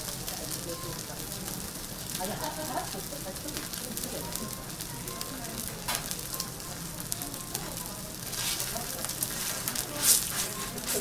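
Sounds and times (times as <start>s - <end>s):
steak sizzling on a griddle: 0.0s - 11.0s.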